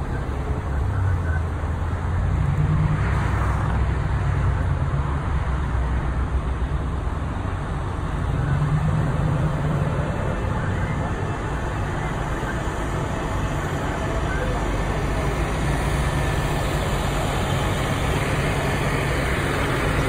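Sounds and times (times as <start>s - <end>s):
freeway traffic rumble: 0.0s - 20.0s
idling vehicle engines: 0.0s - 20.0s
vehicle passing: 0.0s - 20.0s.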